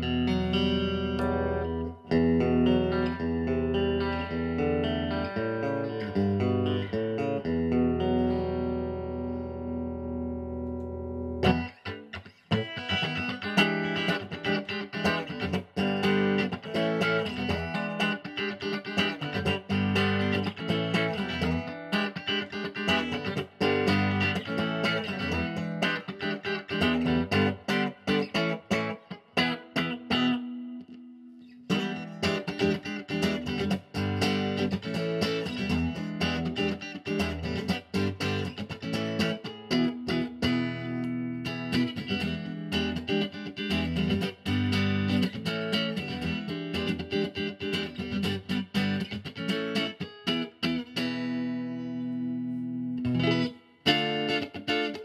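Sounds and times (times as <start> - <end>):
clean electric guitar playing: 0.0 - 55.0.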